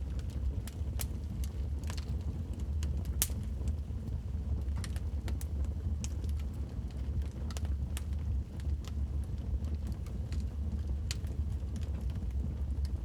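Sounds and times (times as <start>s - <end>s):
low rumble of flames: 0.0s - 13.0s
wood fire crackling and popping: 0.1s - 13.0s.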